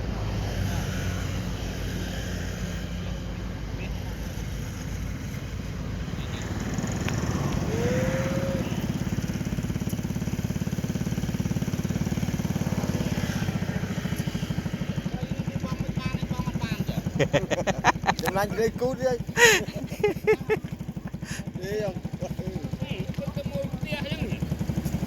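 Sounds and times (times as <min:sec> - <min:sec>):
small engine running: 0:00.1 - 0:25.0.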